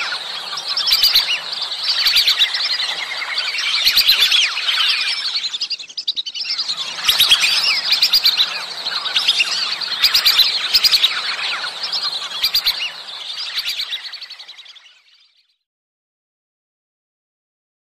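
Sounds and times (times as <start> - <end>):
ducks whistling: 0.0 - 15.2.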